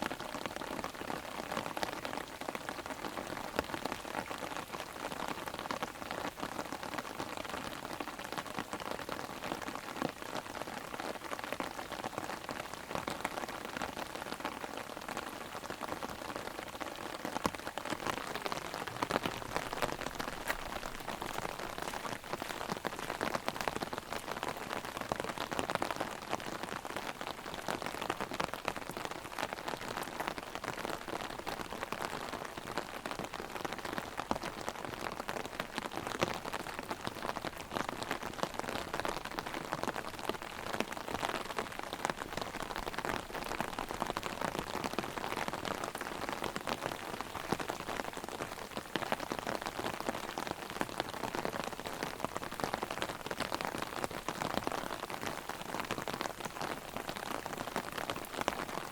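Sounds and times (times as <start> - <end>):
rain drumming on an umbrella: 0.0 - 58.9
rain falling all around: 0.0 - 58.9.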